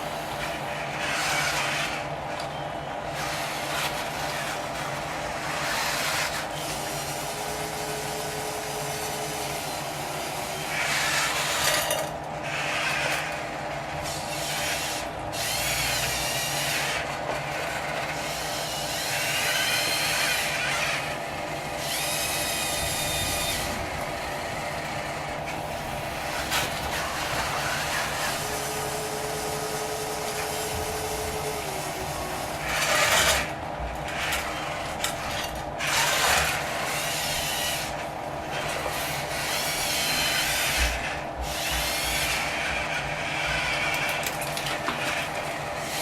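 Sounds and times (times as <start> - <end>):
small electric motors whining: 0.0 - 46.0
steady electric hum: 0.0 - 46.0.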